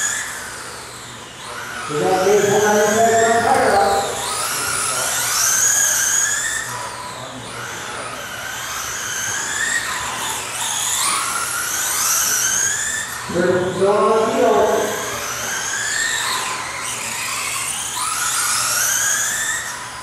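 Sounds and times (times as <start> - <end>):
radio-controlled car motors whining: 0.0 - 20.0.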